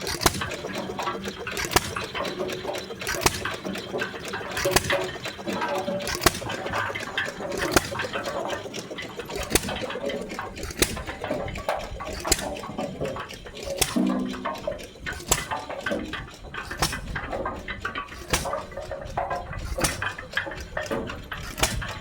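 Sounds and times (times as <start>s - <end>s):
engine clickety knocking: 0.0s - 22.0s
hit-and-miss engine banging: 0.0s - 22.0s.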